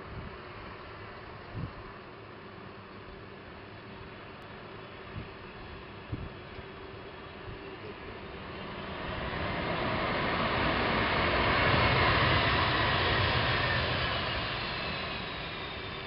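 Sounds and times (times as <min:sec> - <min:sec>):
jet engines on landing roll: 0:00.0 - 0:16.0.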